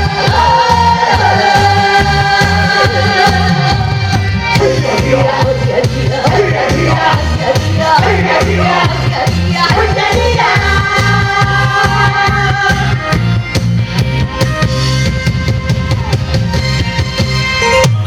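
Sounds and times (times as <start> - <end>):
live band music: 0.0 - 18.0
pulsing bass beat: 0.0 - 18.0.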